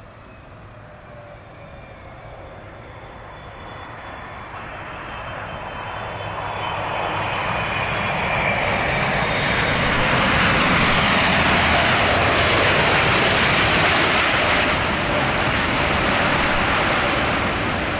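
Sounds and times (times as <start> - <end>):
jet engines rushing with high whine: 0.0 - 17.9.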